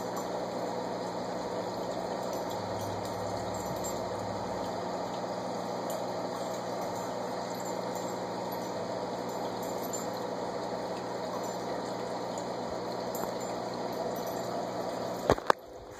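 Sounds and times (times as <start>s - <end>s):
electric hum: 0.0s - 15.9s.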